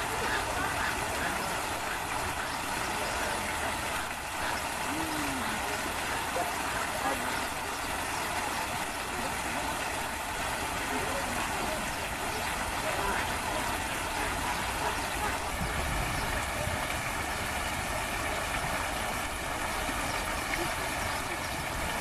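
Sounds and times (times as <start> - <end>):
faint voices talking: 0.0 - 22.0
outdoor background noise: 0.0 - 22.0.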